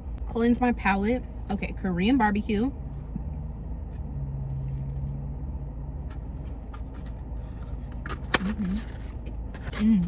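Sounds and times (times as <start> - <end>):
car engine hum: 0.0 - 10.0.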